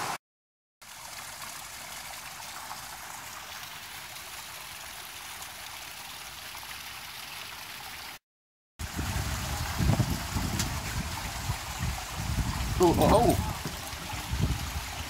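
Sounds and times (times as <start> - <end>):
small waterfall splashing: 0.0 - 0.2, 0.8 - 8.2, 8.8 - 15.0.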